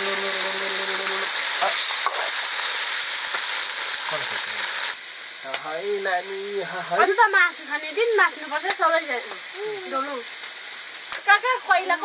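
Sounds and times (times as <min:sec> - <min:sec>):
water sizzling in hot oil: 0:00.0 - 0:12.0.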